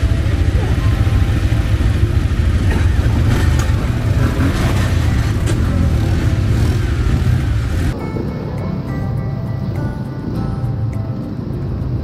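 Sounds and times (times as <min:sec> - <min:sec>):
atv engines rumbling: 0:00.0 - 0:12.0.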